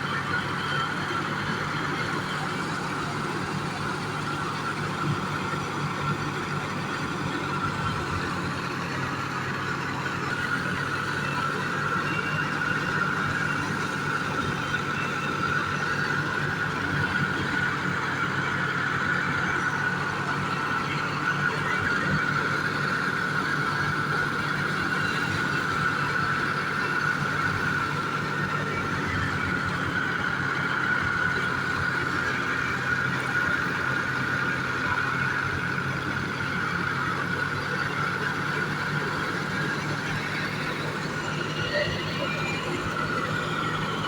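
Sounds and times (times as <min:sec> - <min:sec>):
engine hum: 0:00.0 - 0:44.0.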